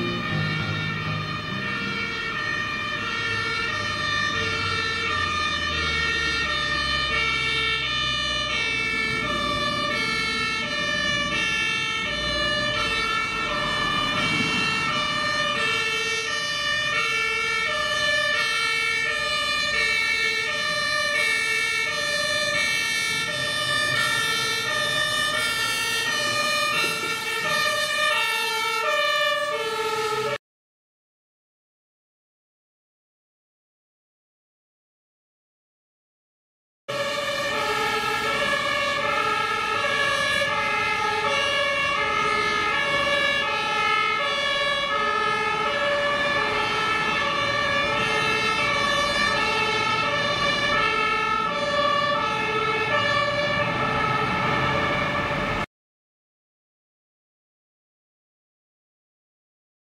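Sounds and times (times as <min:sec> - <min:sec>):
truck engine: 0:00.0 - 0:30.3, 0:36.9 - 0:55.7
road noise: 0:00.0 - 0:30.4, 0:36.9 - 0:55.7
two-tone fire engine siren: 0:00.0 - 0:30.4, 0:36.9 - 0:55.7.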